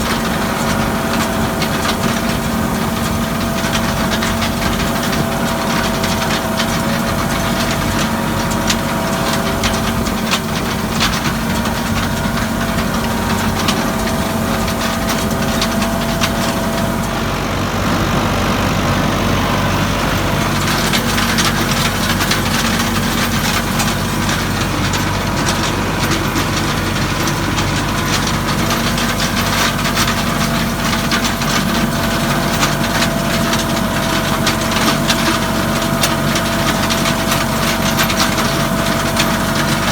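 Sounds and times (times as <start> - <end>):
hay implement clicking and clattering: 0.0 - 39.9
tractor engine running: 0.0 - 39.9.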